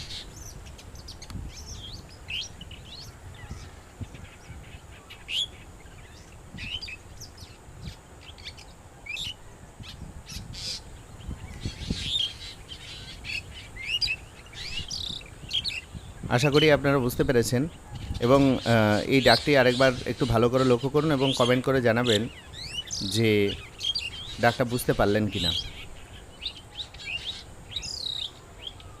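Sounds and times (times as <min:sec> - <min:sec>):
bird calling in background: 0:00.0 - 0:29.0.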